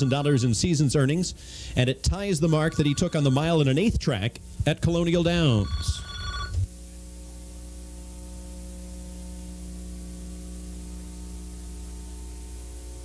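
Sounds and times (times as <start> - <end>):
electrical hum with hiss: 0.0 - 13.0.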